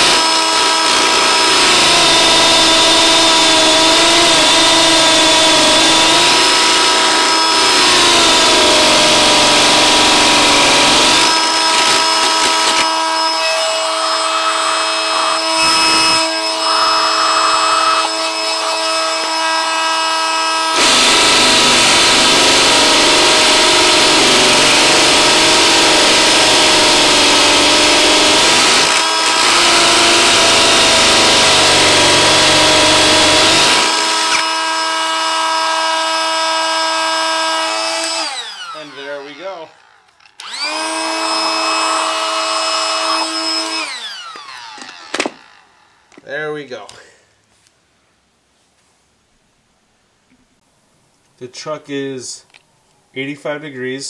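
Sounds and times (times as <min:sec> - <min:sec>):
hammer drill boring into concrete: 0:00.0 - 0:46.3.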